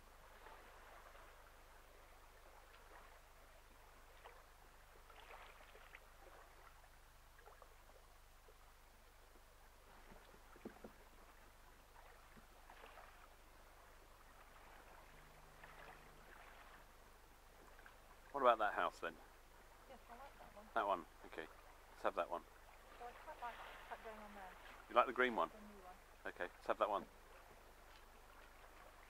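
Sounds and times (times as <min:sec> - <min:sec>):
water lapping against a hull: 0:00.0 - 0:29.0.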